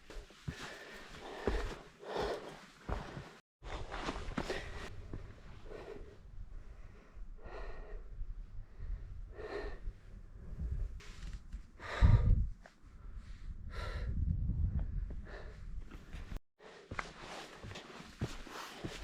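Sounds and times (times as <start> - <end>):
person breathing hard: 0.1 - 3.4, 4.4 - 11.0, 11.7 - 14.3, 15.0 - 19.0.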